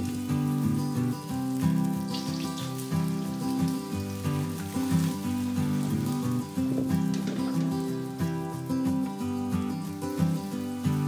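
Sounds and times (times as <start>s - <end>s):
background music: 0.0s - 11.0s
oil sizzling and crackling: 0.0s - 11.0s.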